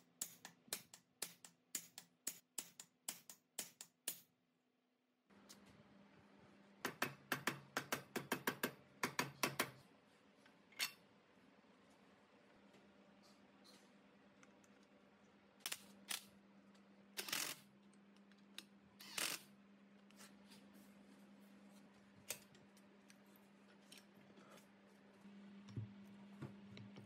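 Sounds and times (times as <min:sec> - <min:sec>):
faint steady hum: 0:04.6 - 0:27.0.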